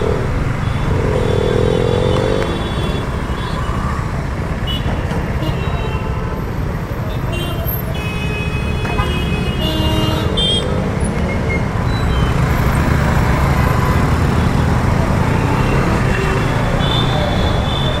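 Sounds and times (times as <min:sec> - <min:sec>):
road traffic engines: 0:00.0 - 0:18.0.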